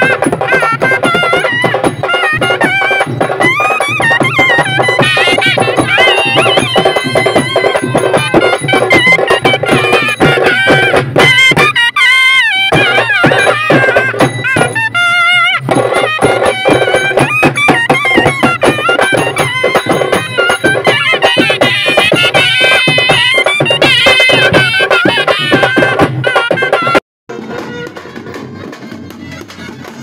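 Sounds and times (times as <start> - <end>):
fast dense drumming: 0.0 - 11.8, 15.6 - 30.0
reed wind instrument melody: 0.0 - 30.0.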